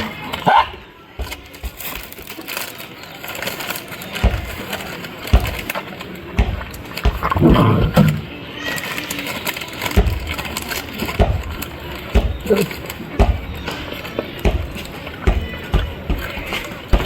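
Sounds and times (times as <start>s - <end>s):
puppies crunching food: 0.0s - 17.0s.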